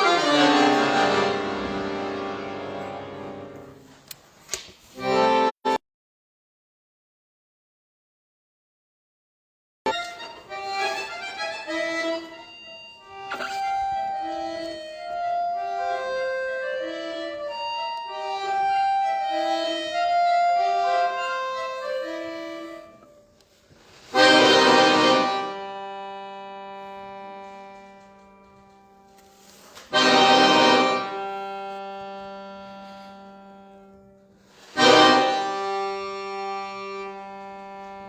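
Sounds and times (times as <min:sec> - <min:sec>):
accordion melody: 0:00.0 - 0:04.2, 0:04.9 - 0:05.8, 0:09.9 - 0:38.0.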